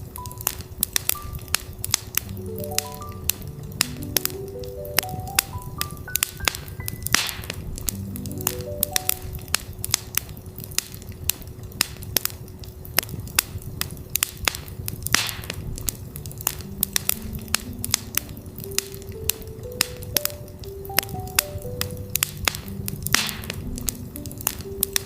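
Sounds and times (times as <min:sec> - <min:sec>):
campfire crackling and popping: 0:00.0 - 0:25.0
fire hiss: 0:00.0 - 0:25.0.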